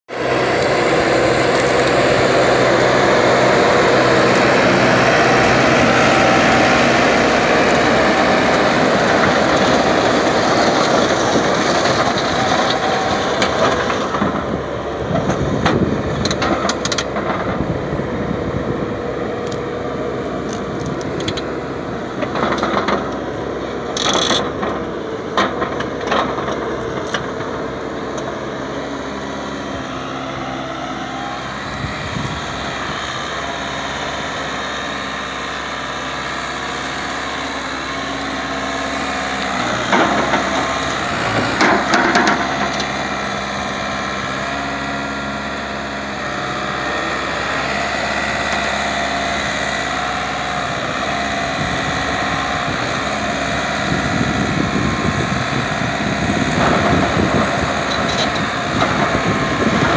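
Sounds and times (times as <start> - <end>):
tiller blades churning soil: 0.1 - 59.9
tractor engine under load: 0.1 - 59.9.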